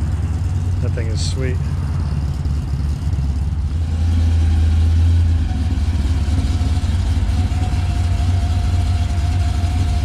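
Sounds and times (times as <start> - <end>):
car engine deep rumble: 0.0 - 10.0.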